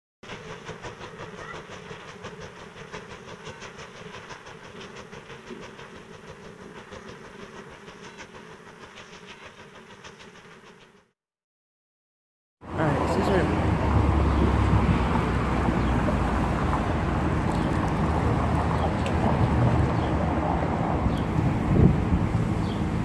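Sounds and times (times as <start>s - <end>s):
train wheels clicking over rails: 0.3s - 11.1s, 13.6s - 23.0s.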